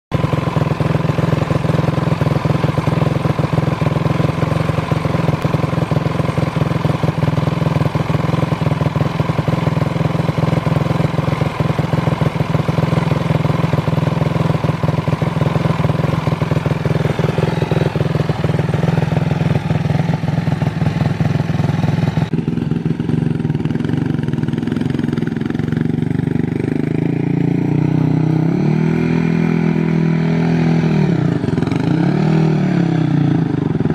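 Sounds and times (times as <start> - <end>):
atv engine idling: 0.1 - 33.9
atv engine revving: 0.1 - 33.9.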